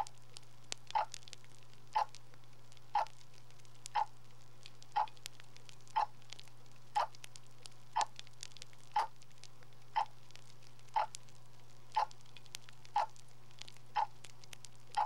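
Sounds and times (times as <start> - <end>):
soft evenly spaced ticks: 0.0 - 15.0
steady low hum: 0.0 - 15.0.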